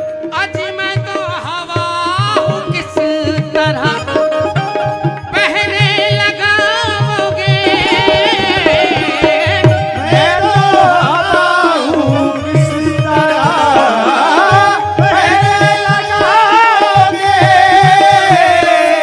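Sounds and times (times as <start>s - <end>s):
man singing: 0.0s - 19.0s
steady drum beat: 0.0s - 19.0s.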